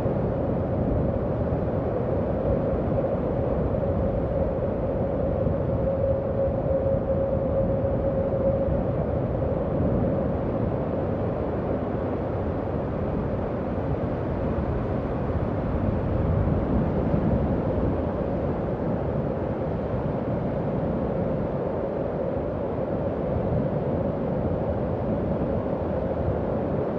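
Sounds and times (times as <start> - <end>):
howling wind: 0.0 - 26.9.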